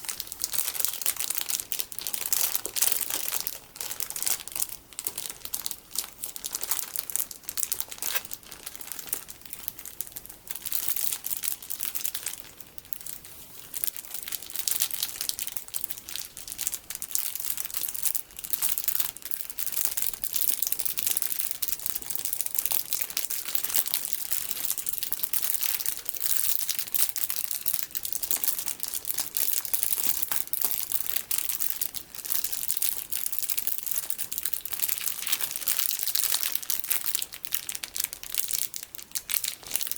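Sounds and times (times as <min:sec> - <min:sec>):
plastic packaging crinkling: 0:00.0 - 0:39.9.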